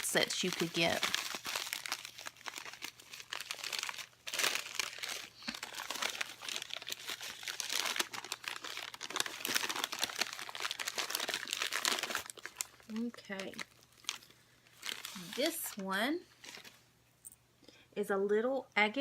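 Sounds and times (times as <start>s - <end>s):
packaging crinkling and rustling: 0.0s - 16.8s.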